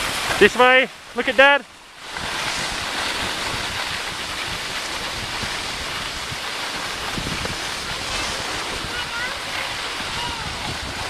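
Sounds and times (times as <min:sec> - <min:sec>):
skis sliding over snow: 0:00.0 - 0:11.0
wind buffeting microphone: 0:01.7 - 0:11.0.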